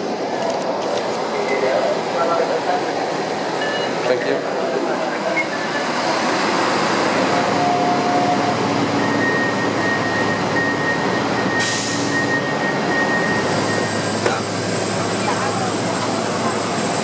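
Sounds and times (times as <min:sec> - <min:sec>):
airport apron rumble and hiss: 0:00.0 - 0:17.0.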